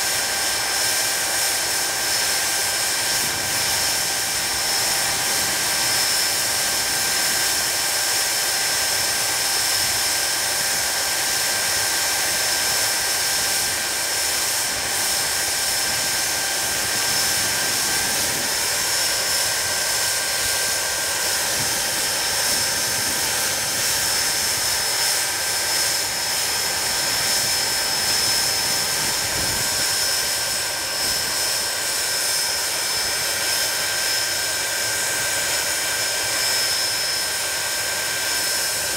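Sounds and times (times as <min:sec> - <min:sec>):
jet engines running with whine: 0:00.0 - 0:38.9.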